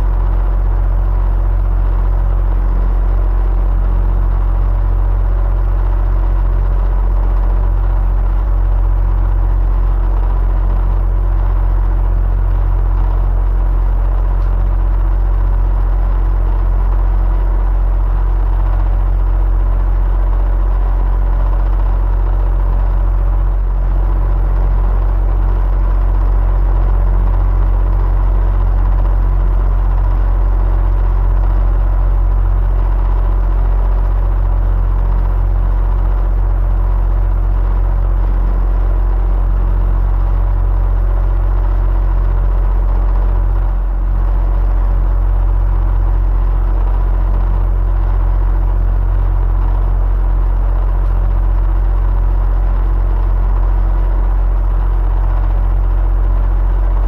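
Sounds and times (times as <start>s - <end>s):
electric fan humming: 0.0s - 57.0s.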